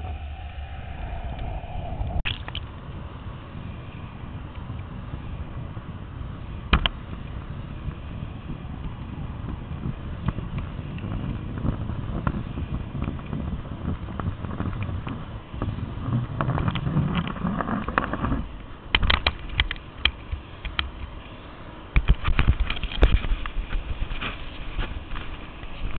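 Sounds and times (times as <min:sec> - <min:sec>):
rushing wind and water: 0:00.0 - 0:21.2.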